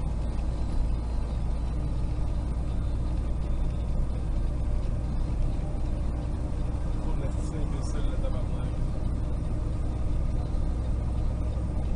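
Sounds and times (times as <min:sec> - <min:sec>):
truck engine and road noise: 0:00.0 - 0:11.9.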